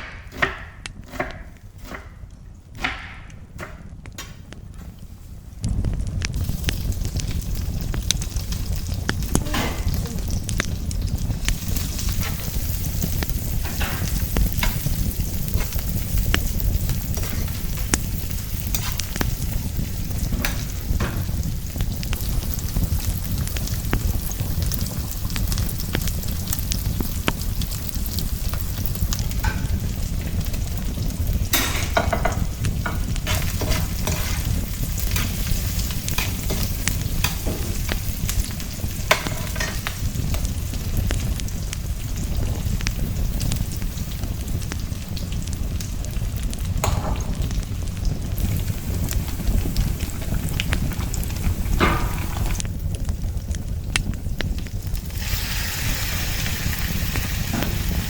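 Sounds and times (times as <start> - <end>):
food sizzling in a pan: 4.4 - 58.0
low rumble: 4.6 - 58.0.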